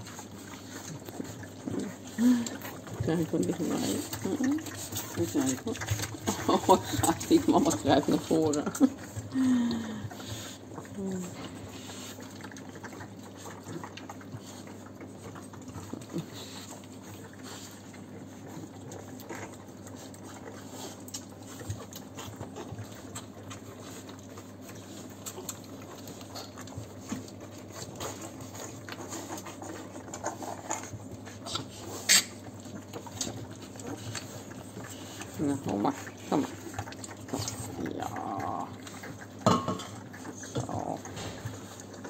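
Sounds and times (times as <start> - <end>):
puppies suckling: 0.0 - 42.0.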